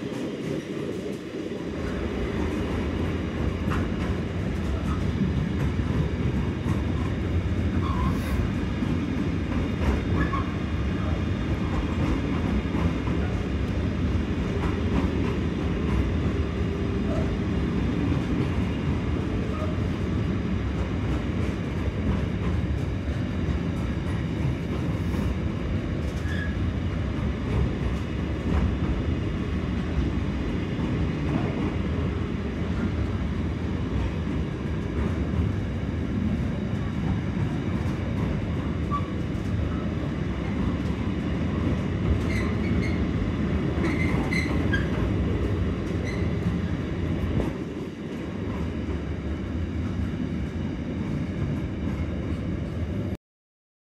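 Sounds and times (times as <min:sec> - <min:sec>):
freight train wheels rumbling on track: 0:00.0 - 0:53.2.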